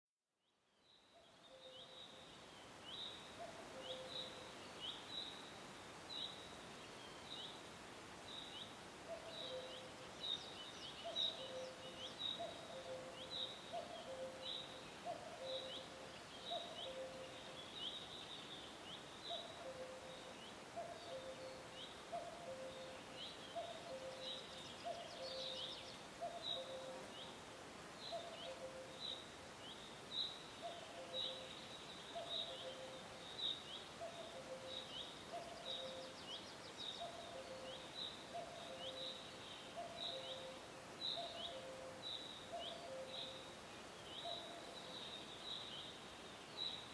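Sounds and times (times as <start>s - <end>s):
faint steady hiss: 0.3s - 46.9s.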